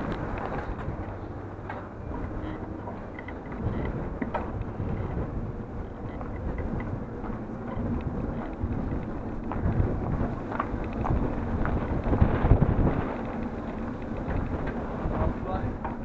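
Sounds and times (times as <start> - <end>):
bike tyres ticking on paving: 0.0 - 16.0
wind rumbling on microphone: 0.0 - 16.0.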